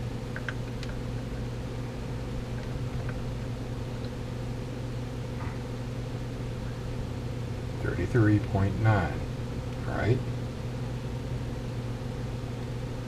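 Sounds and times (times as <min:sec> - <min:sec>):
amplifier low hum: 0:00.0 - 0:13.0.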